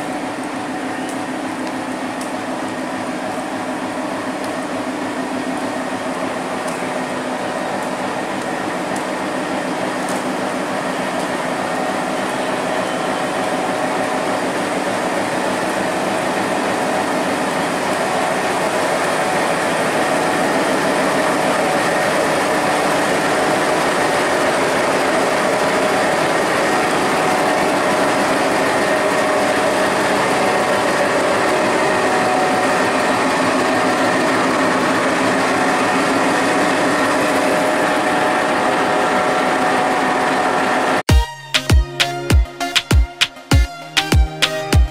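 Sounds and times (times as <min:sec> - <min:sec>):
locomotive engine drone: 0:00.0 - 0:41.0.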